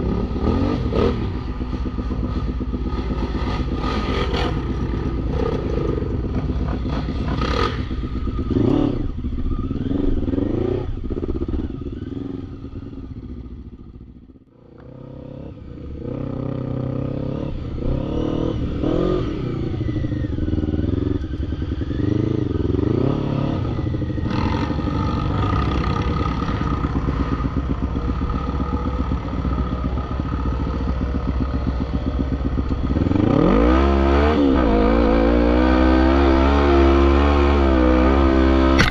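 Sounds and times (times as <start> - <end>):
quad bike engine revving: 0.0 - 13.8, 14.8 - 38.9.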